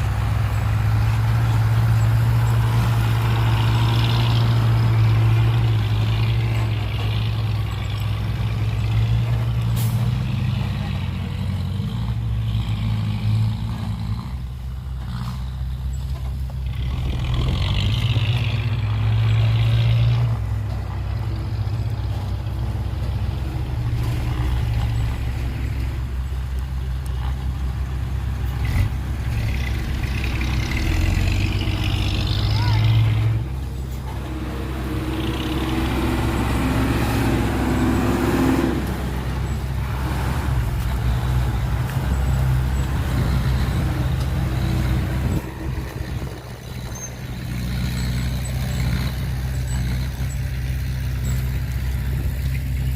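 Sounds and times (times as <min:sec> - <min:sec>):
diesel truck engine droning: 0:00.0 - 0:52.9.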